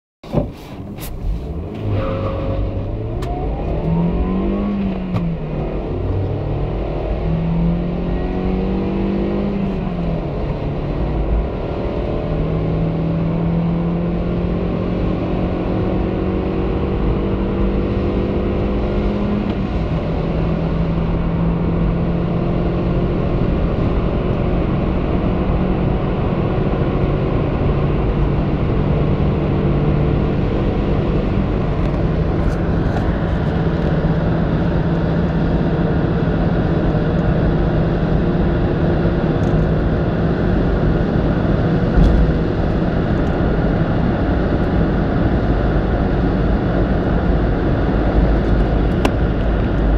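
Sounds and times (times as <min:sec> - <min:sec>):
car engine under full throttle: 0:00.2 - 0:49.9
road and wind noise: 0:00.2 - 0:49.9.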